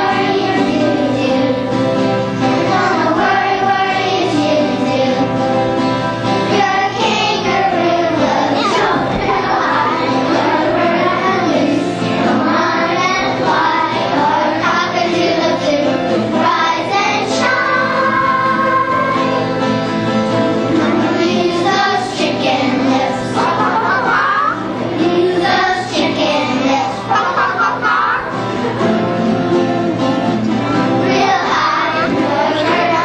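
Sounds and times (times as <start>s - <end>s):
children singing: 0.0s - 33.0s
musical accompaniment: 0.0s - 33.0s.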